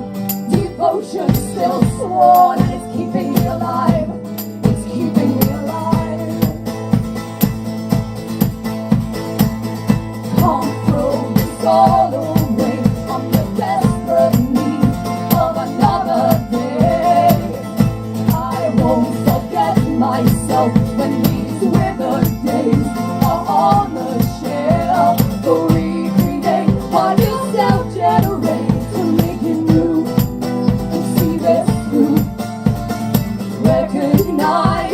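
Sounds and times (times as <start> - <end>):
live band playing: 0.0 - 34.9
sung melody: 0.0 - 34.9.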